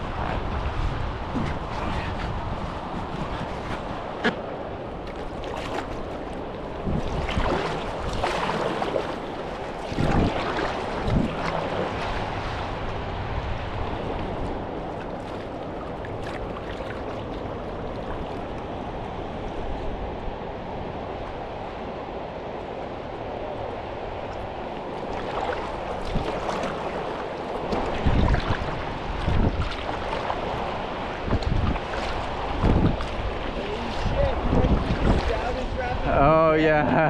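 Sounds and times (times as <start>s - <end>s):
river water rushing and splashing: 0.0s - 37.0s
wind on microphone: 0.0s - 37.0s.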